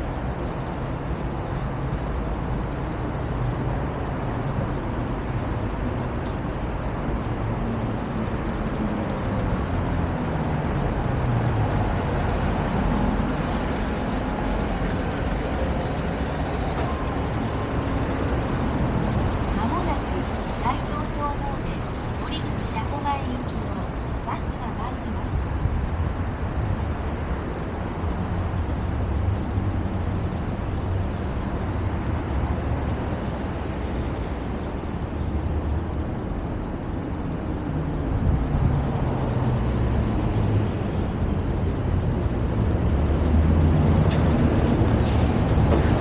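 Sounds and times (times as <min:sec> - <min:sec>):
vehicle and road rumble: 0:00.0 - 0:46.0.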